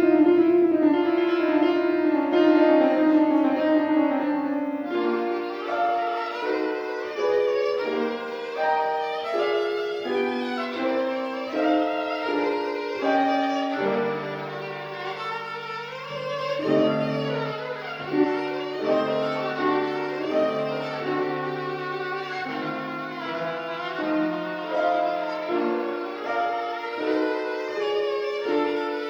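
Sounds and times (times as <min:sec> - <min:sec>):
piano accompaniment: 0:00.0 - 0:29.0
solo violin melody: 0:00.0 - 0:29.0.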